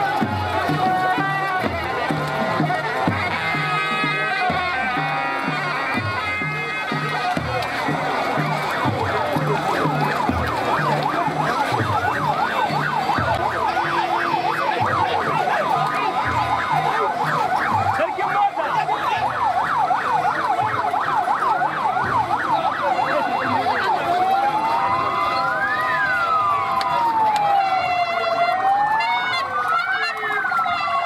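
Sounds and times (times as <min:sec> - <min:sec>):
low rhythmic thuds: 0:00.0 - 0:29.0
siren yelping: 0:00.0 - 0:31.0.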